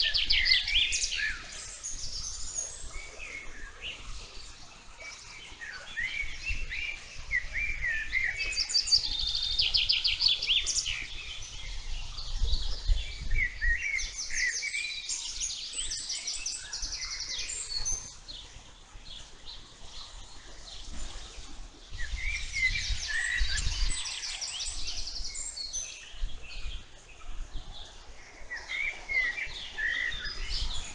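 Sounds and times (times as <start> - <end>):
songbirds chirping and trilling: 0.0 - 30.9.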